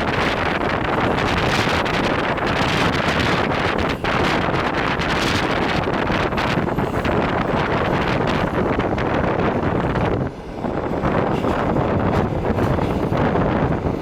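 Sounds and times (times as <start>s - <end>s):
train running noise: 0.0s - 14.0s
wind rushing over microphone: 0.0s - 14.0s.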